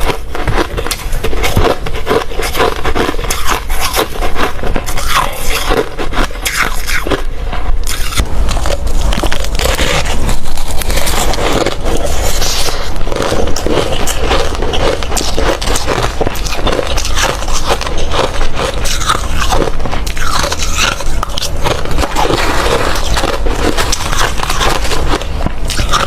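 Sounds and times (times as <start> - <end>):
person crunching ice: 0.0 - 26.0.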